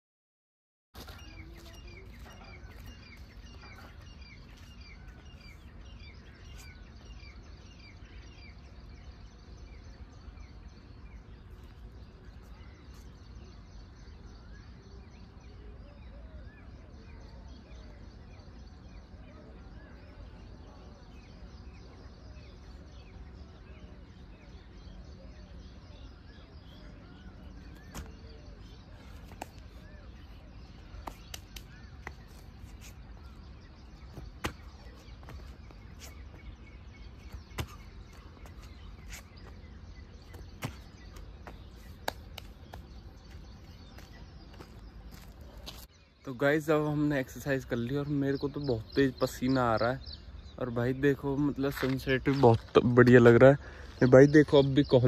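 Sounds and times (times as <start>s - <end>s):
small birds chirping: 1.0s - 55.0s.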